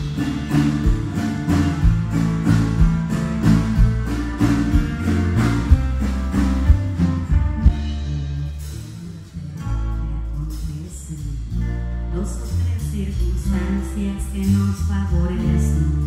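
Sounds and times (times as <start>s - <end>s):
bass guitar: 0.0s - 16.0s
drums: 0.0s - 16.0s
strummed acoustic guitar: 0.0s - 16.0s.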